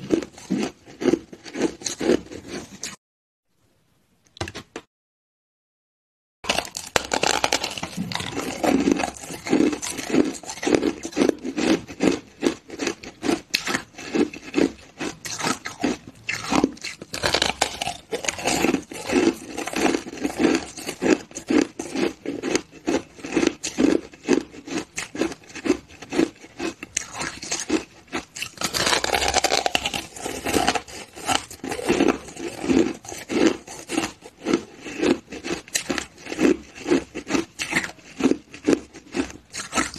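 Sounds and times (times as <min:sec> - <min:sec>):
person chewing crushed ice: 0:00.0 - 0:03.0, 0:06.4 - 0:39.9.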